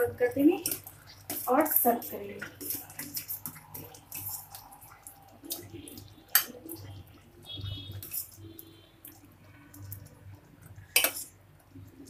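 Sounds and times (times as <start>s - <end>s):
pudding dripping and slopping: 0.0s - 12.0s.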